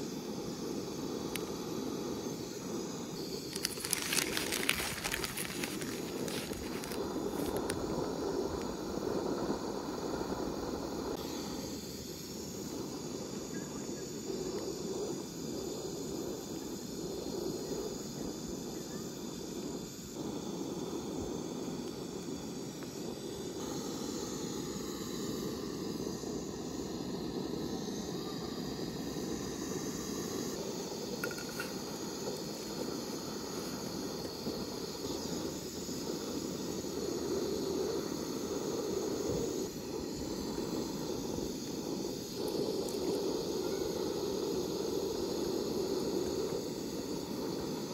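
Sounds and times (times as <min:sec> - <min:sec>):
gas burner running: 0:00.0 - 0:47.9.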